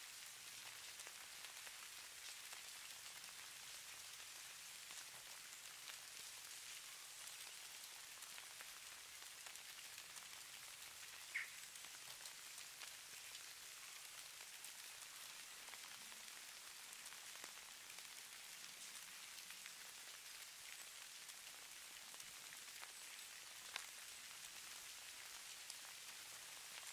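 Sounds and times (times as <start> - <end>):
snow pattering on surfaces: 0.0 - 26.9.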